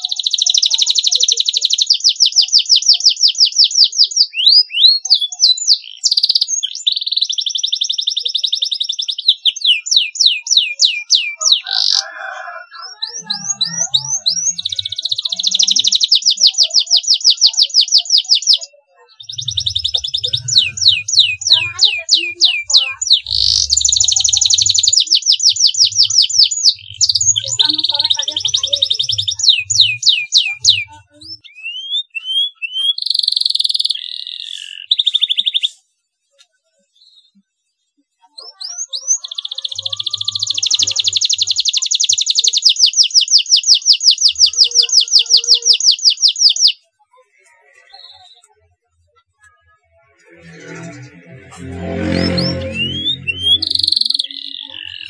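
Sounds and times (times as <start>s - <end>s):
canary singing trills: 0.0s - 35.9s, 38.3s - 49.4s, 50.0s - 55.0s.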